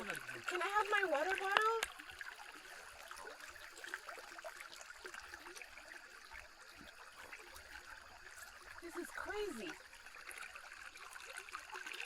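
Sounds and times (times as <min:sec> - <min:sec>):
stream trickling: 0:00.0 - 0:12.0
water drips and splashes: 0:00.0 - 0:12.0.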